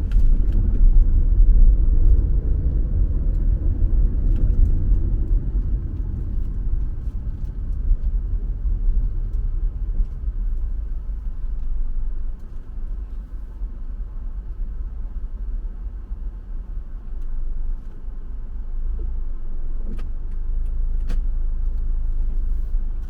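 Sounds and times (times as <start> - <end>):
car interior road rumble: 0.0 - 23.0.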